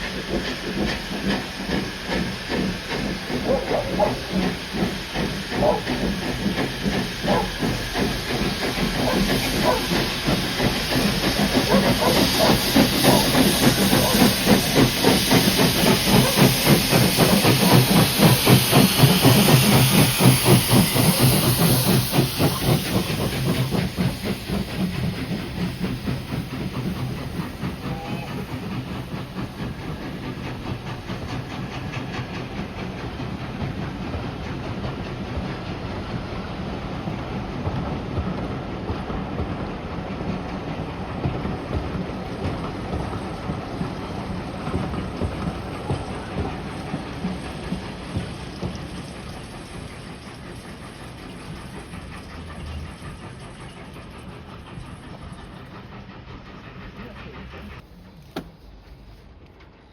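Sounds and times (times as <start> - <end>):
steam hissing: 0.0 - 59.0
steam locomotive chuffing: 0.0 - 59.9.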